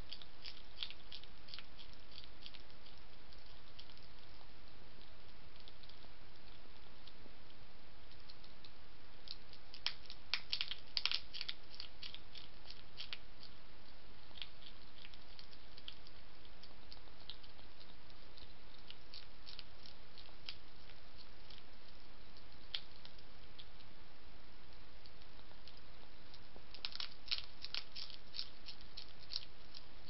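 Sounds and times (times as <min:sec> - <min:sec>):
hedgehog crunching food: 0:00.0 - 0:24.0, 0:24.6 - 0:30.0
steady background hiss: 0:00.0 - 0:30.0.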